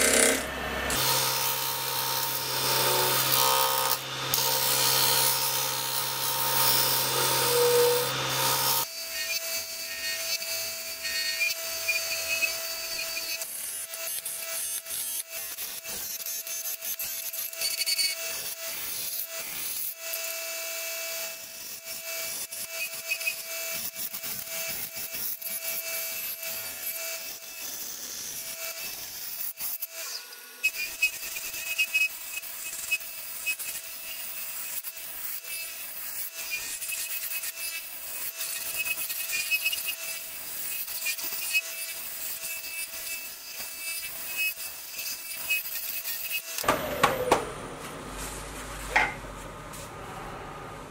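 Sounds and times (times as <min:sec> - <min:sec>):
lathe tool scraping wood: 0:00.0 - 0:19.6, 0:22.2 - 0:50.0.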